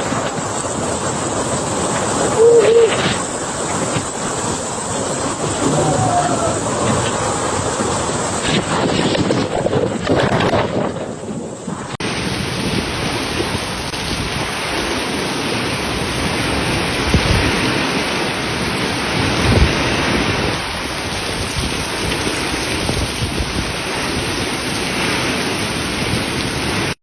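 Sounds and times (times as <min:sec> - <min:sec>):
heavy rain and strong wind: 0:00.0 - 0:27.0.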